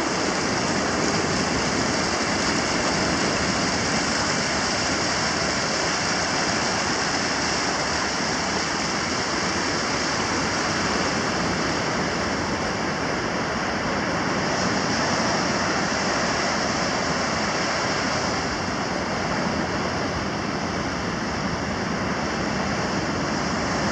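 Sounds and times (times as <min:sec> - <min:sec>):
ocean surf breaking: 0:00.0 - 0:23.9.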